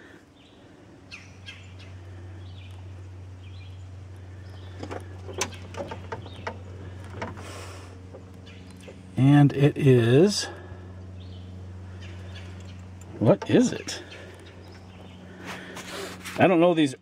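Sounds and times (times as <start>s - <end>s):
birds chirping: 0.0s - 16.2s
steady low hum: 0.0s - 17.0s.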